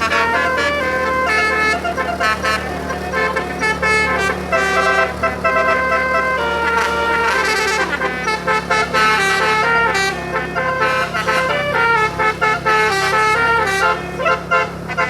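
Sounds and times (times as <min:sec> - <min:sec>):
multi-tone bus horn melody: 0:00.0 - 0:15.0.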